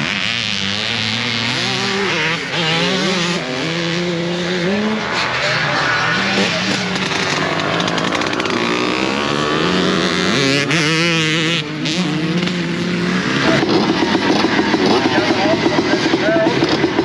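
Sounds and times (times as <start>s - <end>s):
engine fast rough pulse: 0.0s - 17.0s
motocross bikes revving: 0.0s - 17.0s.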